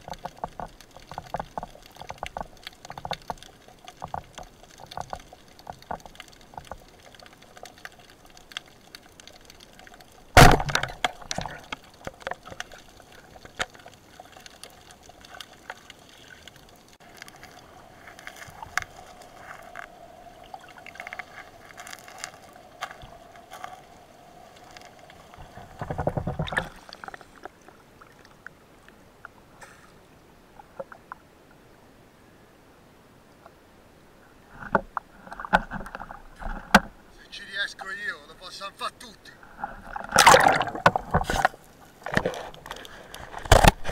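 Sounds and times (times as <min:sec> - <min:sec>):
small clicks and crackles: 0:00.0 - 0:31.2, 0:34.5 - 0:37.0, 0:39.5 - 0:43.9
rush of water: 0:00.0 - 0:31.7, 0:34.3 - 0:43.9
water sloshing underwater: 0:00.0 - 0:31.8, 0:34.2 - 0:37.1, 0:39.4 - 0:43.9
faint steady hum: 0:00.0 - 0:43.9.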